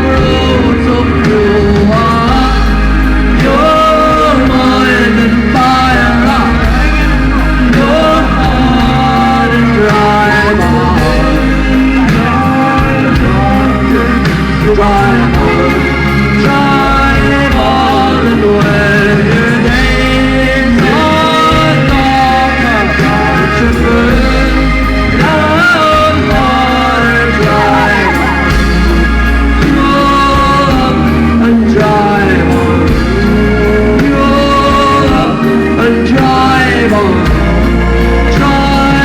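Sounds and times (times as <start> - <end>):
band playing live: 0.0 - 39.0
person singing long notes: 0.0 - 39.0
steady bass line: 0.0 - 39.0.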